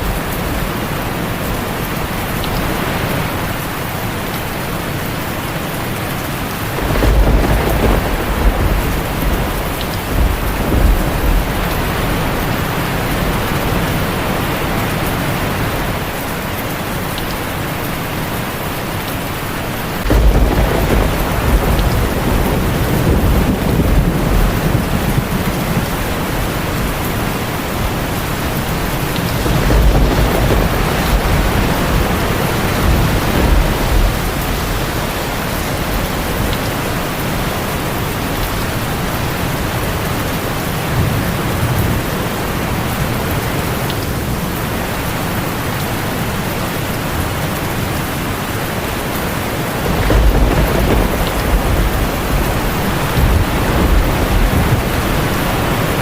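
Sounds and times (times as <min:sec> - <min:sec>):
heavy rain on a tin roof: 0:00.0 - 0:56.0
thunder rumbling: 0:00.0 - 0:56.0.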